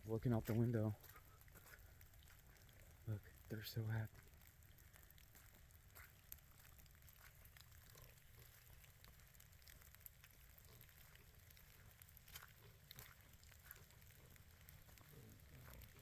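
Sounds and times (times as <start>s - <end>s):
faint ticks: 0.0s - 16.0s.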